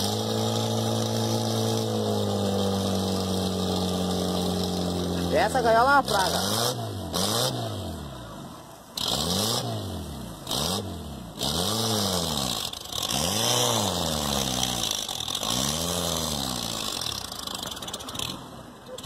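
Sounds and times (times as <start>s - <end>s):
car engine revving hard: 0.0s - 8.4s, 9.0s - 18.5s
water churning around wheels: 0.0s - 19.0s.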